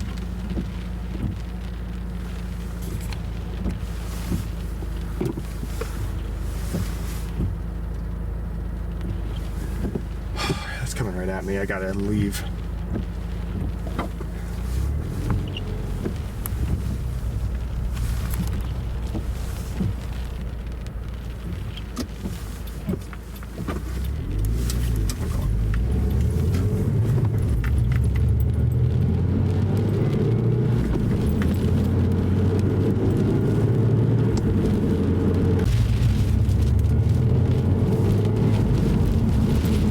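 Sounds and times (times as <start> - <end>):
car engine accelerating: 0.0 - 39.9
road noise inside car: 0.0 - 39.9.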